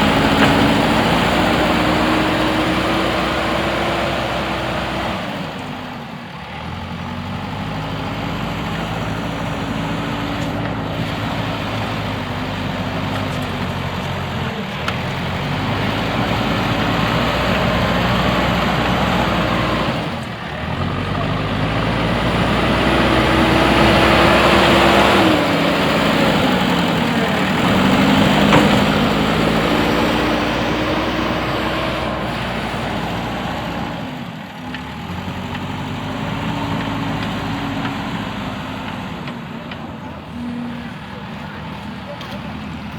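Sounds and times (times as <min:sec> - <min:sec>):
diesel engine under load: 0:00.0 - 0:42.9.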